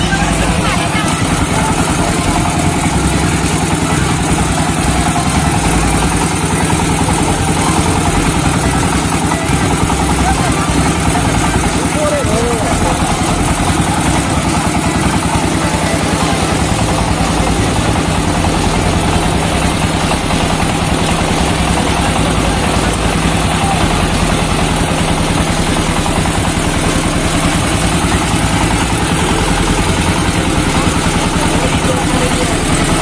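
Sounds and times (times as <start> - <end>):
diesel engine running steadily: 0.0 - 33.0.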